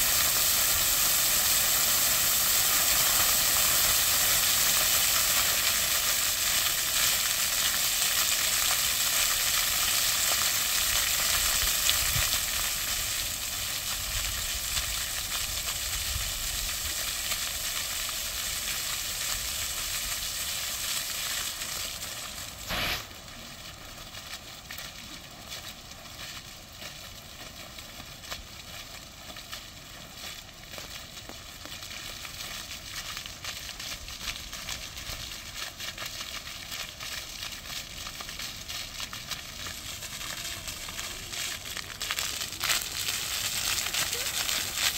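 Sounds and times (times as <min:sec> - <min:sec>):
fountain jets splashing: 0:00.0 - 0:44.9.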